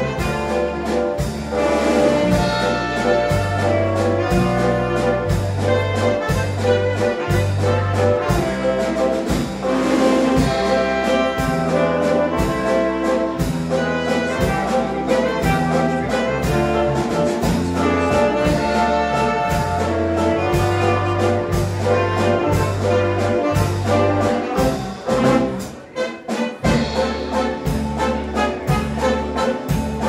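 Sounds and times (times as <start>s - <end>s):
brass band music: 0.0s - 30.0s.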